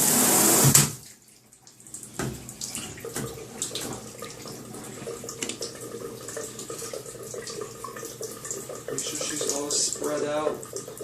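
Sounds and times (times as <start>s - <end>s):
small water splashes and drips: 1.0s - 11.0s.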